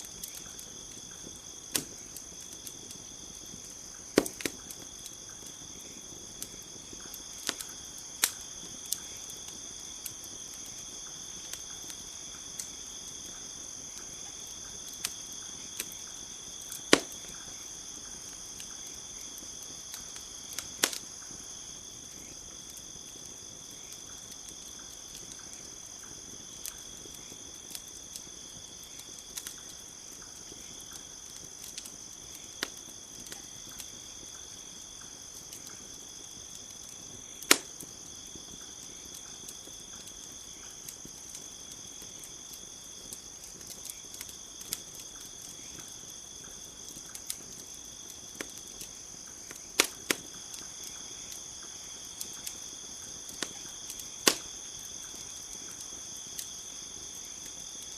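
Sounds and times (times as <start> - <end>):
campfire crackling: 0.0 - 57.9
crickets chirping: 0.0 - 57.9.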